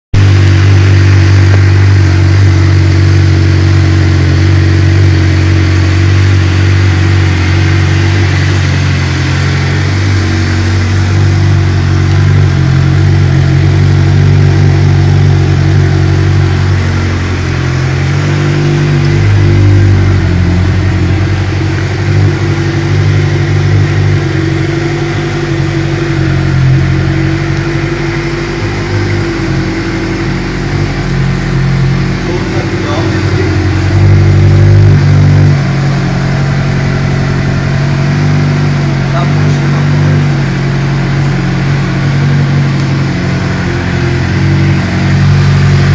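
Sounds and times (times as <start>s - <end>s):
motorcycle engine drone: 0.0s - 45.9s.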